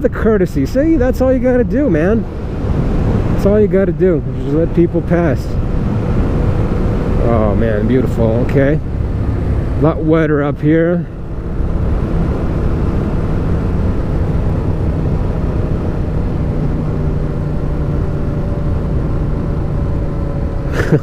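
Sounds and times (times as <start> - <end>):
motorcycle engine cruising: 0.0 - 21.0
road noise: 0.0 - 21.0
wind rush: 0.6 - 10.2, 11.1 - 20.6.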